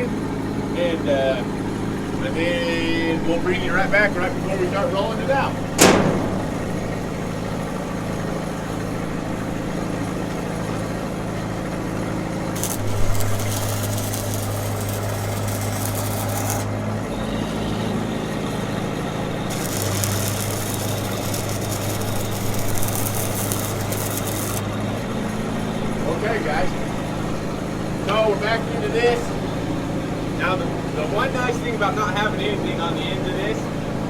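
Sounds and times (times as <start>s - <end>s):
welding machine engine running: 1.5s - 31.6s.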